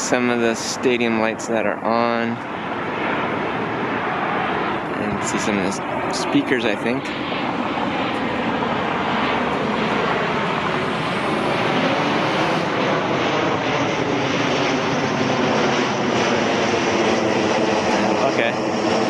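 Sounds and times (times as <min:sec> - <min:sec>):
airplane flying low overhead: 0:00.0 - 0:19.0.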